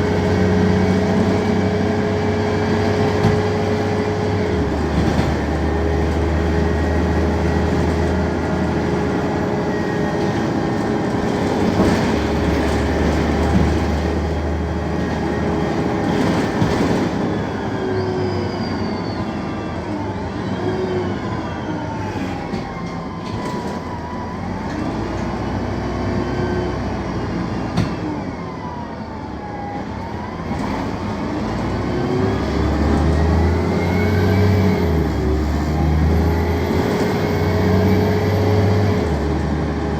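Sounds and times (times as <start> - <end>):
bus engine hum: 0.0 - 39.9.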